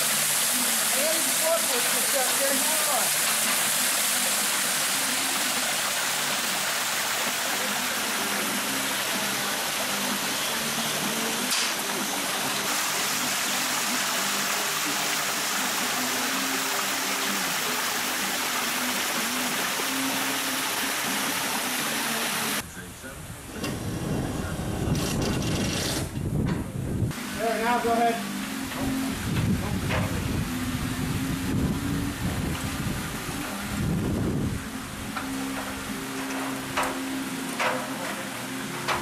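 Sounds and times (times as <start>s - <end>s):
waterfall splashing into pool: 0.0s - 22.6s, 27.1s - 39.0s.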